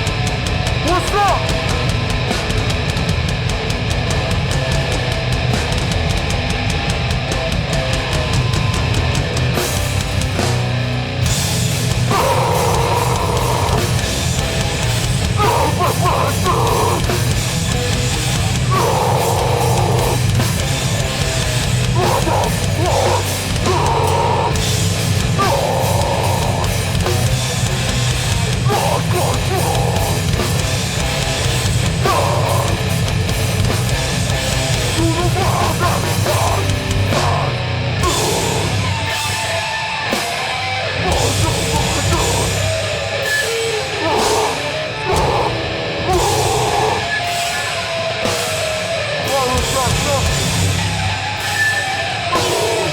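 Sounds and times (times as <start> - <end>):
hardcore band playing live: 0.0 - 52.9.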